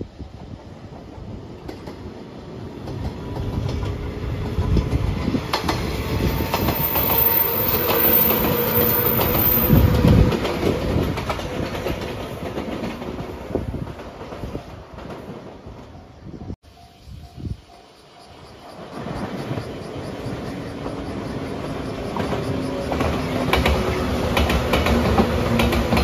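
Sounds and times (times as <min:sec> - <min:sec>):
train wheels clacking: 0:00.6 - 0:15.9, 0:16.8 - 0:26.0.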